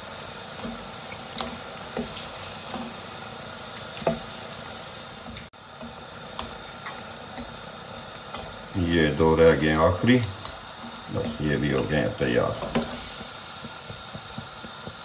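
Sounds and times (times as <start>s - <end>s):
oil sizzling in deep fryer: 0.0s - 15.0s.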